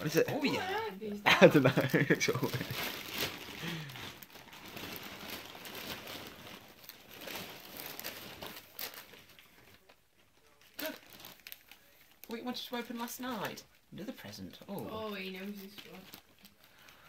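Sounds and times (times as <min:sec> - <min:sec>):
wrapping paper crinkling and tearing: 0:01.3 - 0:17.0.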